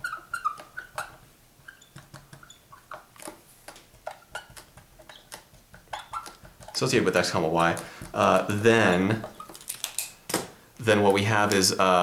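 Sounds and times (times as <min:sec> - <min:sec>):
marker squeaking on paper: 0:00.0 - 0:10.0.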